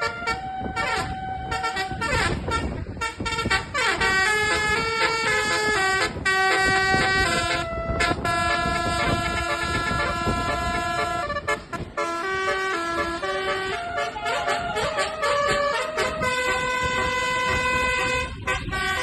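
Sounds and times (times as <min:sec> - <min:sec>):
musical air horn playing tune: 0:00.0 - 0:19.0.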